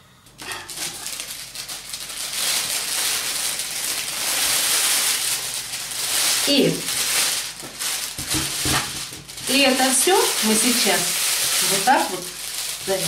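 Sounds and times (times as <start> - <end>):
plastic sleeve crinkling: 0.4 - 13.0.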